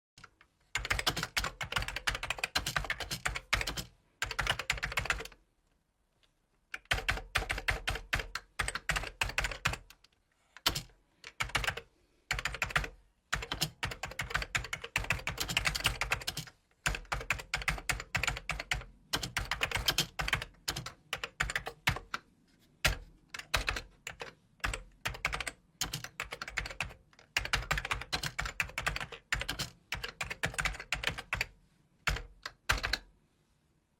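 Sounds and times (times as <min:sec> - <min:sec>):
keyboard typing: 0:00.2 - 0:05.4, 0:06.7 - 0:33.1.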